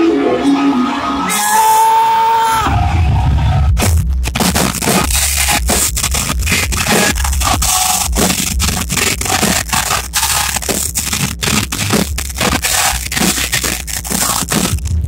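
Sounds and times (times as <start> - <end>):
rock band playing live: 0.0 - 14.8
microphone distortion crackling: 2.7 - 15.0.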